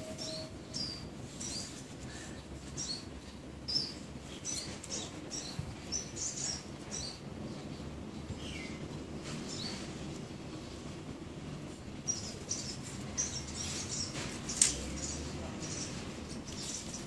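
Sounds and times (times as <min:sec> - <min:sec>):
small birds chirping: 0:00.0 - 0:10.8, 0:11.7 - 0:17.0
low background rumble: 0:00.0 - 0:17.0.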